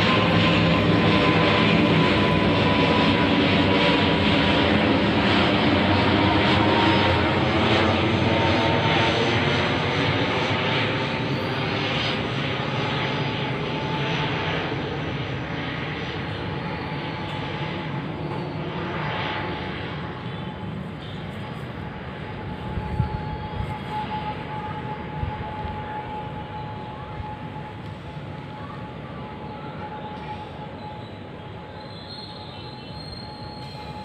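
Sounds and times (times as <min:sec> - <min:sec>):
airplane engines droning: 0:00.0 - 0:34.0.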